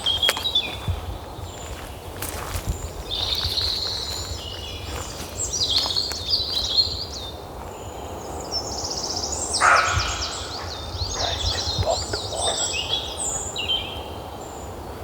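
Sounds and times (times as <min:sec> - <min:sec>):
songbirds singing and chirping: 0:00.0 - 0:15.0.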